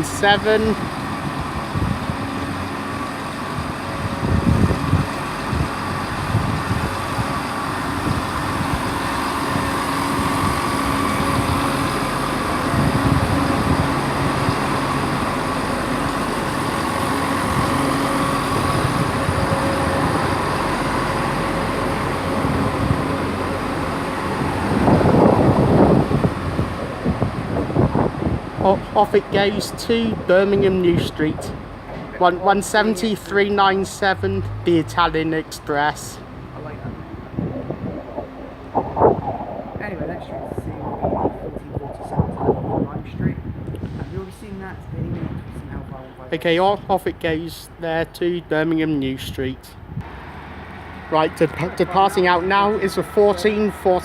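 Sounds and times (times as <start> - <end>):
diesel train engines running: 0.0 - 38.8, 39.4 - 54.0.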